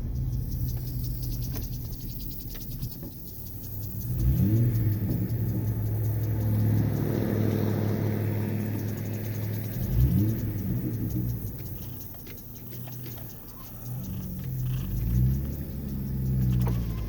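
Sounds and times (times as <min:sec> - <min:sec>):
truck exhaust revving and droning: 0:00.0 - 0:17.0.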